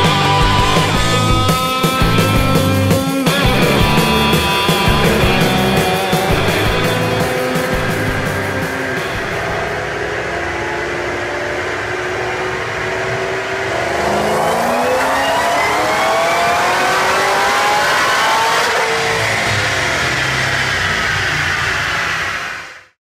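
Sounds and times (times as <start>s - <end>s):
car engine revving on dyno: 0.0s - 23.0s.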